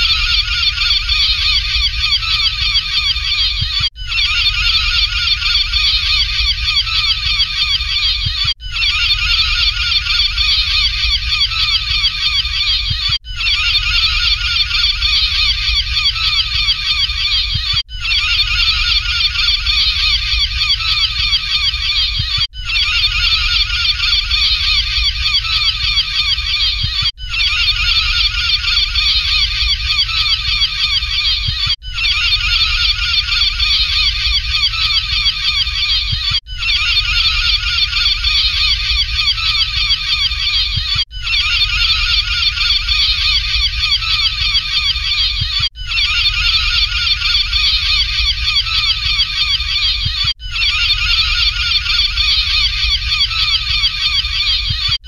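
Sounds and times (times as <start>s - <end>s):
gulls calling: 0.0s - 55.0s.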